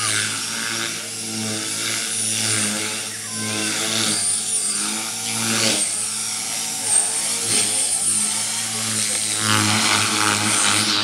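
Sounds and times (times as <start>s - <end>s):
model helicopter rotor whir: 0.0s - 11.0s.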